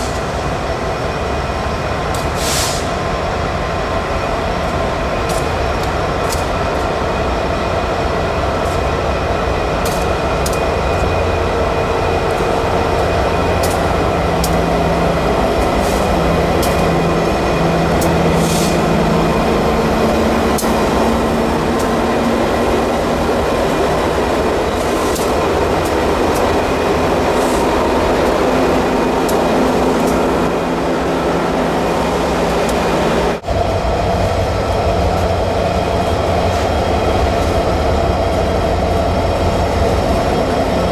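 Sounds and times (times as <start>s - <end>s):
train running on rails: 0.0s - 40.9s.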